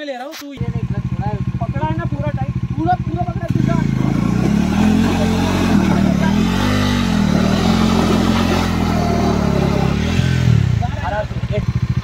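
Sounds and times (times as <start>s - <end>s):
motorcycle engine at raised revs: 0.6s - 12.0s.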